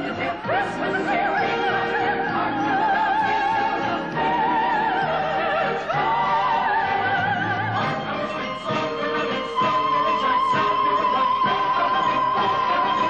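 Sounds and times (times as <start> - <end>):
operatic soprano singing: 0.0 - 13.0.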